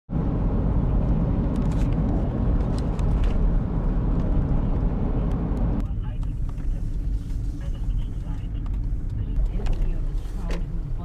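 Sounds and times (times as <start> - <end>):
car driving rumble inside cabin: 0.1 - 11.0.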